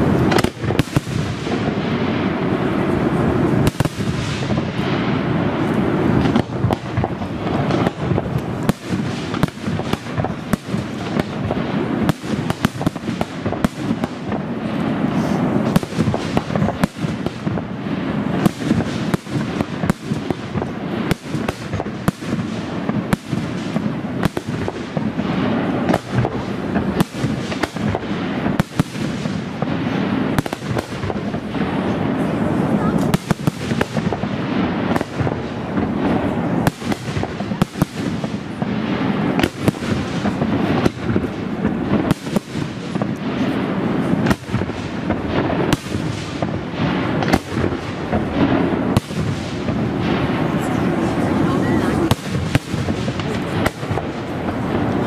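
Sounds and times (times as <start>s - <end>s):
continuous rumble: 0.0s - 55.0s
fireworks bangs: 0.0s - 55.0s.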